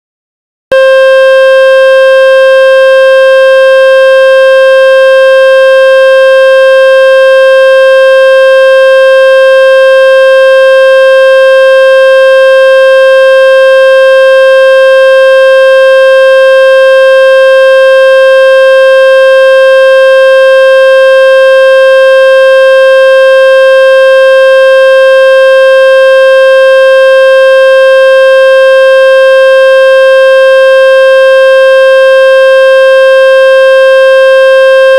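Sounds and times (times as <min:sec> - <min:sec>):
loud buzzy test tone: 0:00.7 - 0:34.9.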